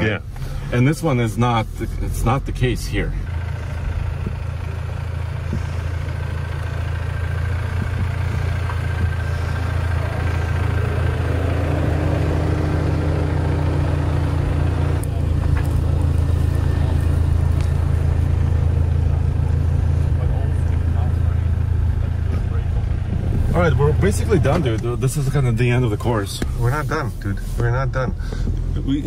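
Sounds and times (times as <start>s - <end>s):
vehicle engine low rumble: 0.0s - 29.0s.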